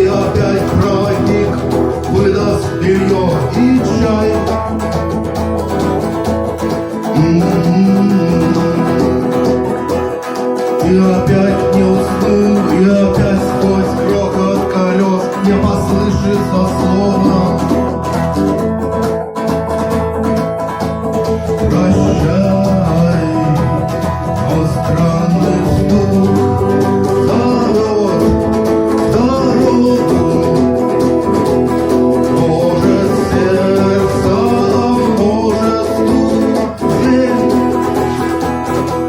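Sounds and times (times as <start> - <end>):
rock guitar melody bending: 0.0 - 39.0
strummed guitar chords: 0.0 - 39.0.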